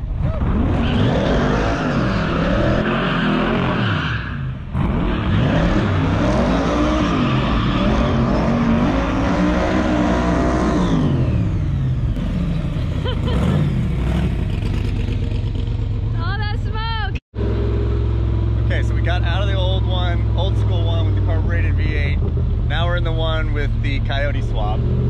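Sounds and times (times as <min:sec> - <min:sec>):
car engine accelerating: 0:00.0 - 0:16.5, 0:17.4 - 0:25.0.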